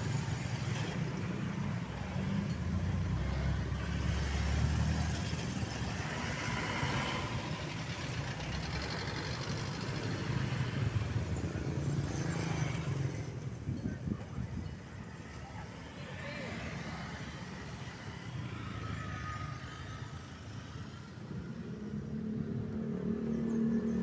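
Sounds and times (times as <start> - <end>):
heavy engines rumbling: 0.0 - 23.1.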